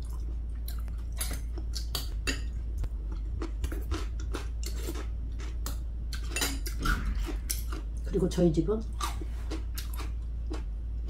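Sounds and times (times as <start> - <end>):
chewing: 0.0 - 8.1, 8.9 - 10.7.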